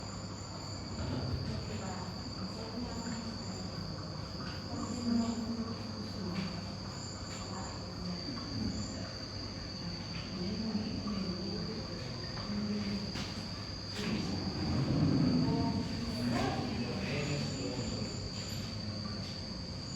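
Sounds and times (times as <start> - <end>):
cricket-like trilling: 0.0 - 19.9.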